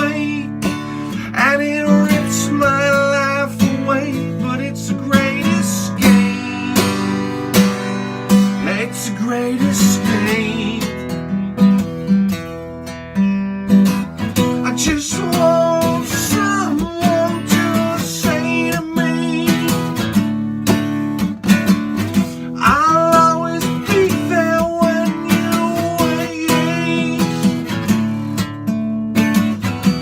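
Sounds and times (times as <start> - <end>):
acoustic guitar instrumental: 0.0 - 30.0.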